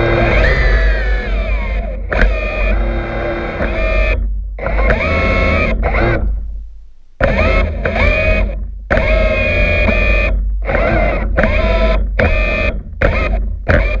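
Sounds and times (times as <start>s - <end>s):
underwater thrusters whining: 0.0s - 14.0s.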